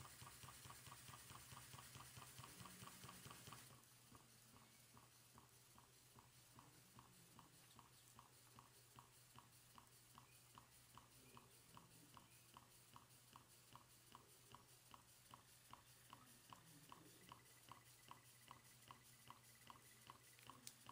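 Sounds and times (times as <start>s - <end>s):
steam engine puffing: 0.0s - 20.9s.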